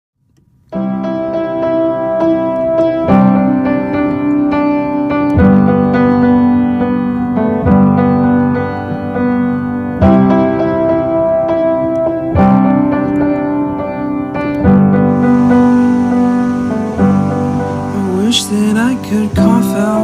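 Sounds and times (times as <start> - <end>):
electric piano chords: 0.6 - 20.0.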